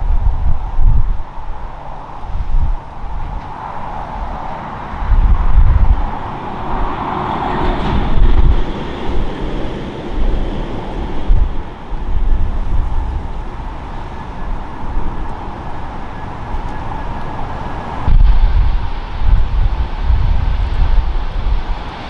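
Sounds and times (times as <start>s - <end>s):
jet engines rushing hiss: 0.0s - 22.0s
wind buffeting microphone: 0.0s - 22.0s.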